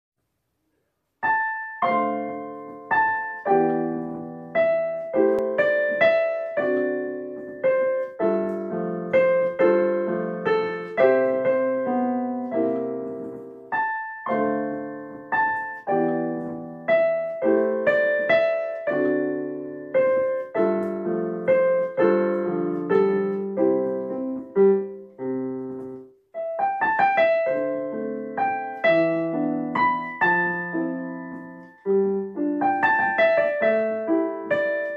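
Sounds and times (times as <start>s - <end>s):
slow solo piano piece: 1.2s - 34.9s.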